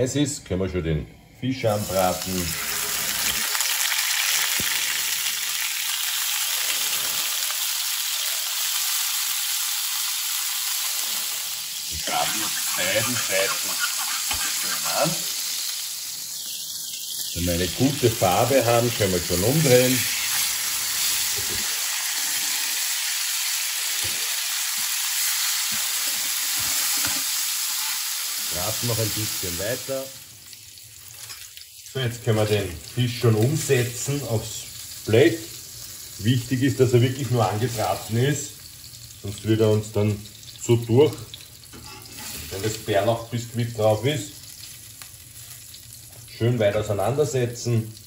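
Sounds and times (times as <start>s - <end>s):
fish frying in butter sizzling: 1.8s - 48.0s.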